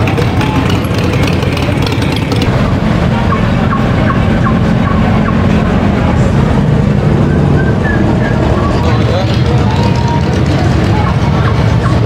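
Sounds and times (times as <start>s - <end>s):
cars driving past slowly: 0.0s - 12.0s.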